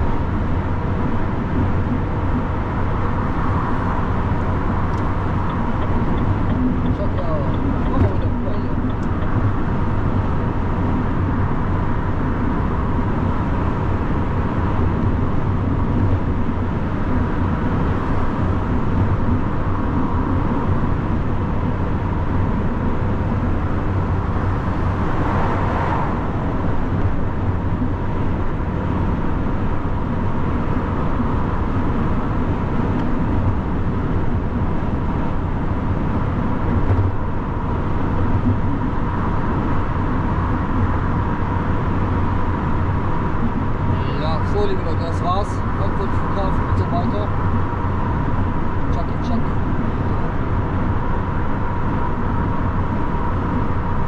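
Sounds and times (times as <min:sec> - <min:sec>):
lorry engine and tyre noise: 0:00.0 - 0:54.0.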